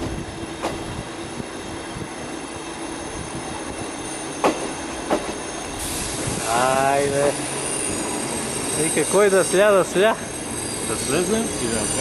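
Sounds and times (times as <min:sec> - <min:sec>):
steam train running: 0:00.0 - 0:12.0.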